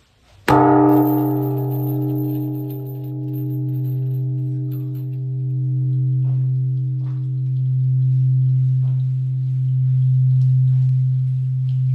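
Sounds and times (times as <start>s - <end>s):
temple bell humming: 0.5s - 11.6s.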